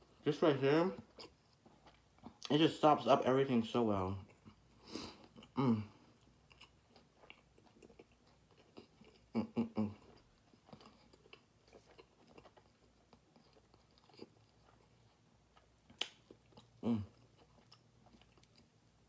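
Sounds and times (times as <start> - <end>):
person chewing with lips closed: 1.0 - 2.5, 4.2 - 19.0.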